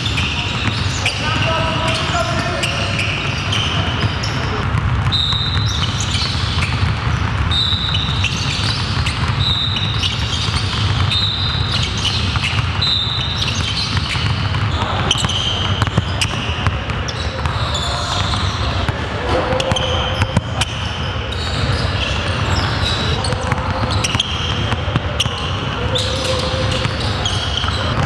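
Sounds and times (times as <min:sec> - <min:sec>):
basketballs dribbled on hardwood: 0:00.0 - 0:28.0.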